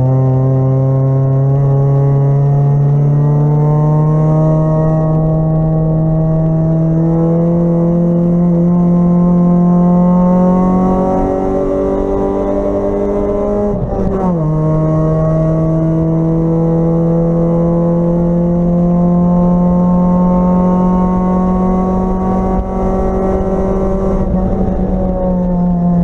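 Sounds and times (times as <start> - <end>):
race car engine at full throttle: 0.0 - 26.0.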